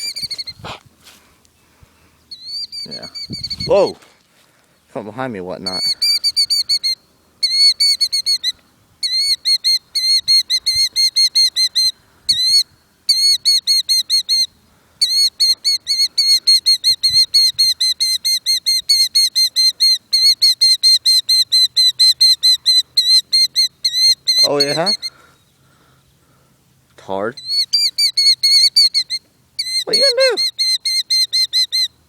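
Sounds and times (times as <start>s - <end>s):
bird alarm calls: 0.0s - 0.8s, 2.2s - 4.0s, 5.6s - 25.8s, 27.3s - 32.0s.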